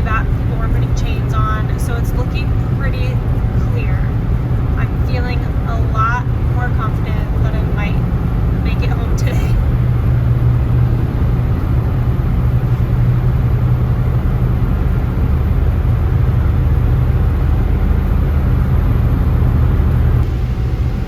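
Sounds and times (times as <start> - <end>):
engine drone inside moving van: 0.0 - 21.0.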